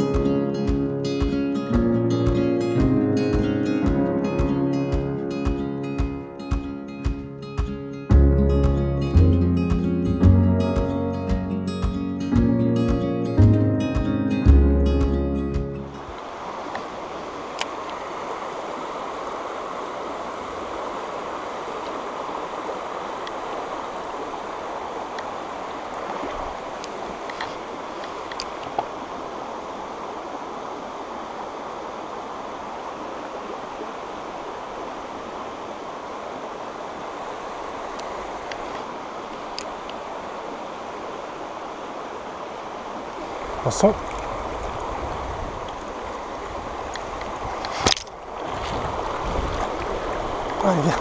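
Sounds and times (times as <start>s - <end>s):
stream flowing over stones: 0.0s - 15.0s, 15.6s - 51.0s.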